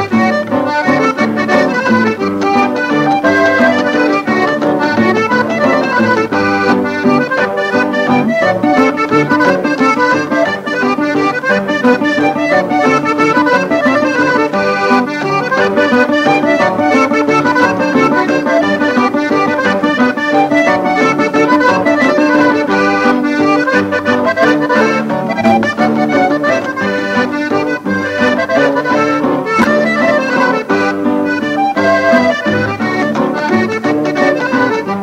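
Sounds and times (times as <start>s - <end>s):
button accordion playing: 0.0s - 35.0s
guitar: 0.0s - 35.0s
upright bass: 0.0s - 35.0s.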